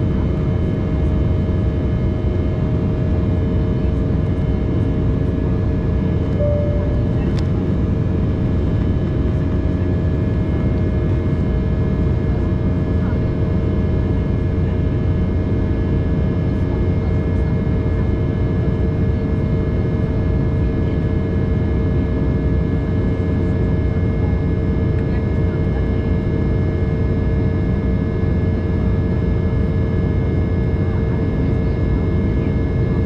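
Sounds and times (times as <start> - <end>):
airliner cabin roar: 0.0 - 33.0
steady whining engine tones: 0.0 - 33.0.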